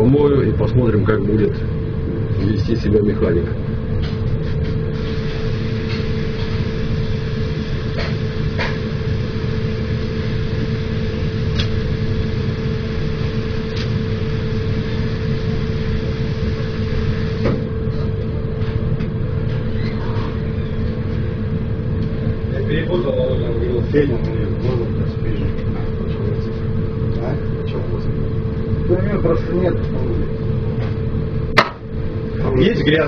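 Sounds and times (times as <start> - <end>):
machine hum with pitched tone: 0.0 - 33.0.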